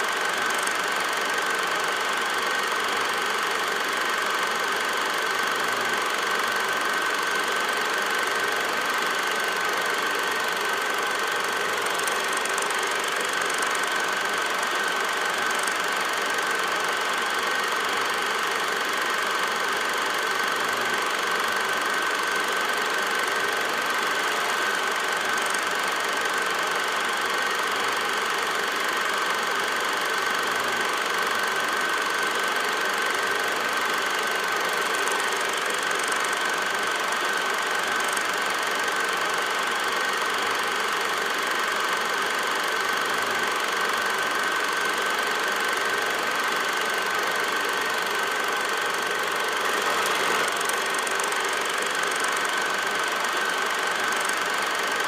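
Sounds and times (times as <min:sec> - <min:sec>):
film projector whirring: 0:00.0 - 0:55.0.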